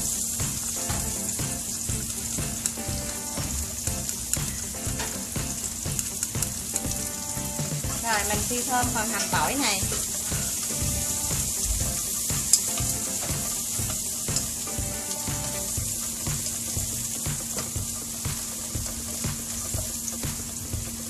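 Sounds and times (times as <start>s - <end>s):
chopsticks stirring in wok: 0.0s - 21.0s
shallots and garlic sizzling in oil: 0.0s - 21.0s.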